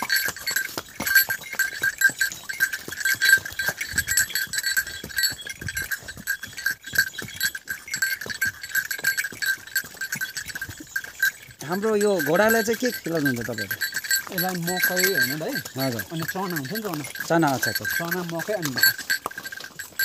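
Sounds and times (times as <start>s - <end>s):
harness bell jingling: 0.0s - 20.0s
hooves on pavement: 0.0s - 20.0s.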